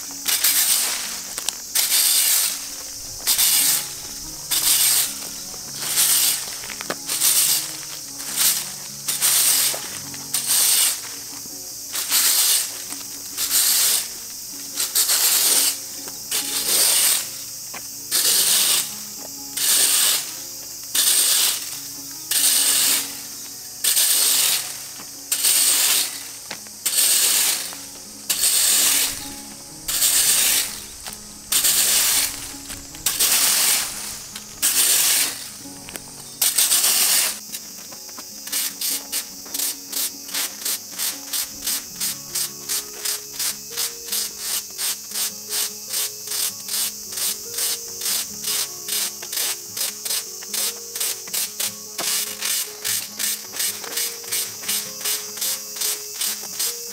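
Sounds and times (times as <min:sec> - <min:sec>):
rake scraping on asphalt: 0:00.0 - 0:56.9.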